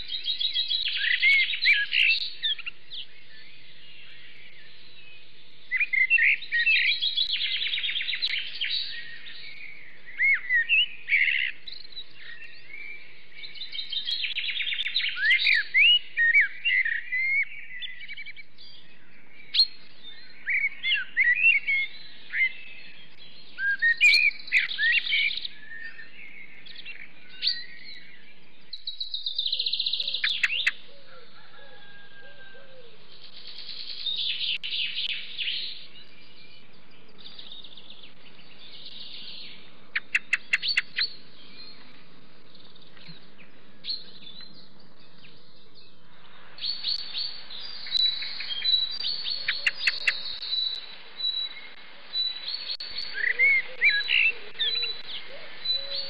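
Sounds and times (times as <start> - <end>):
birds singing and calling: 0.0 - 56.0
faint steady background noise: 0.0 - 56.0.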